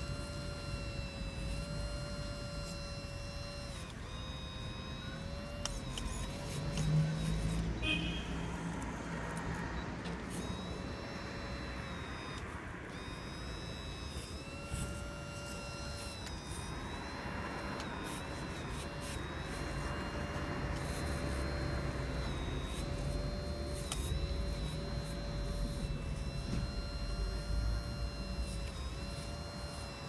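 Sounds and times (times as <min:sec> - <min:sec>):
hydraulic pump whining: 0:00.0 - 0:30.0.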